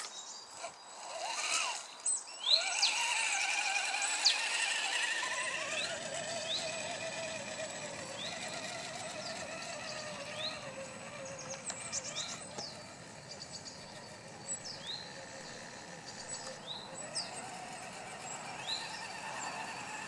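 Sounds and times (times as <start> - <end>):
birds chirping: 0.0 - 20.0
toy truck motor whining: 0.0 - 20.0.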